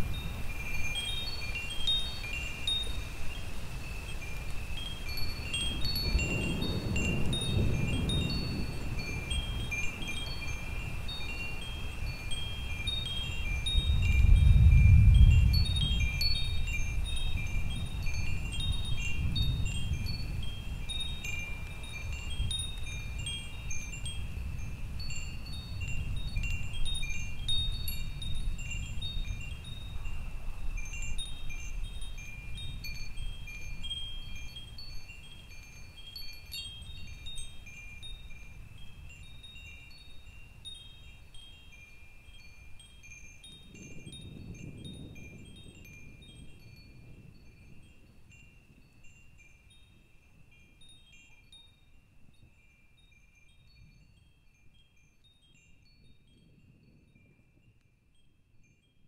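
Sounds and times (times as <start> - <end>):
wind chimes tinkling: 0.0 - 59.0.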